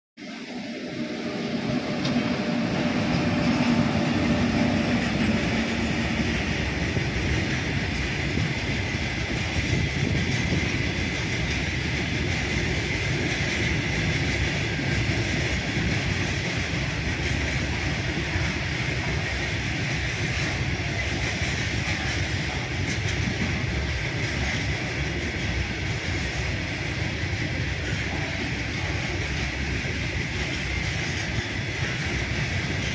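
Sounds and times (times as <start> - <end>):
electric locomotive passing: 0.2 - 32.9
train wheels clattering on rail: 1.2 - 32.9.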